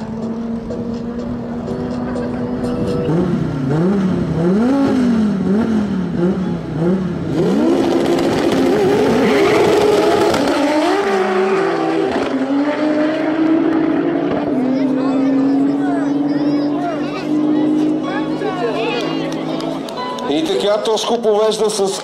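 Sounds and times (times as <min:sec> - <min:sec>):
cars accelerating hard: 0:00.0 - 0:20.7
car engines revving: 0:00.0 - 0:22.0.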